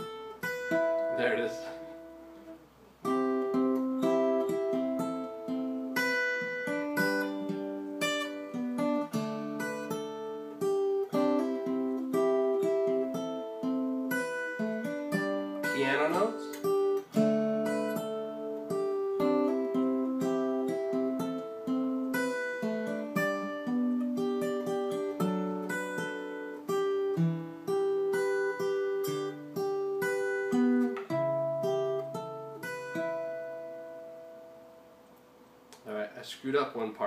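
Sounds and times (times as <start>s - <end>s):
fingerpicked acoustic guitar: 0.0s - 37.0s.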